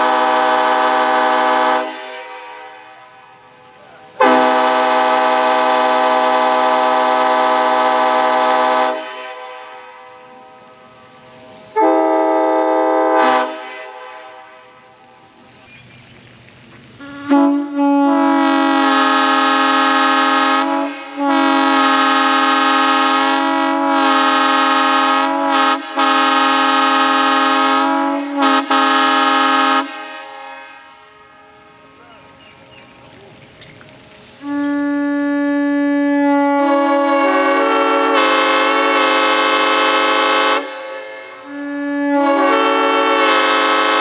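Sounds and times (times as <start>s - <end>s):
locomotive air horn: 0.0s - 15.2s, 17.0s - 32.1s, 34.3s - 44.0s.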